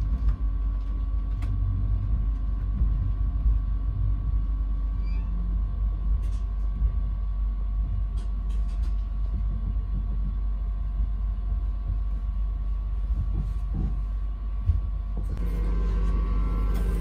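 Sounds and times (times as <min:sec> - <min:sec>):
train rumbling inside coach: 0:00.0 - 0:17.0.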